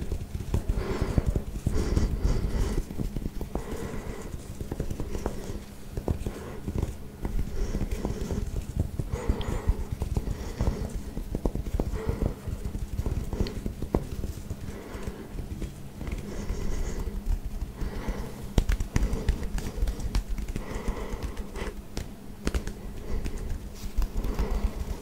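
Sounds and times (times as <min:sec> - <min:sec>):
fingertips scratching short hair: 0:00.0 - 0:25.0.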